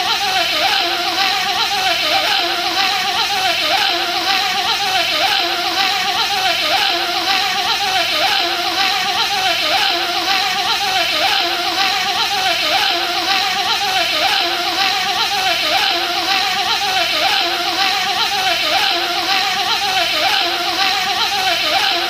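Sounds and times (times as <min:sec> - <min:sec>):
man imitating buzzing bee: 0:00.0 - 0:22.0.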